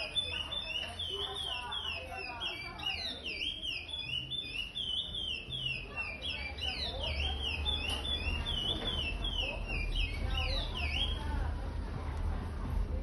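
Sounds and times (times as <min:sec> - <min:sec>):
finch singing whistled notes: 0:00.0 - 0:11.3.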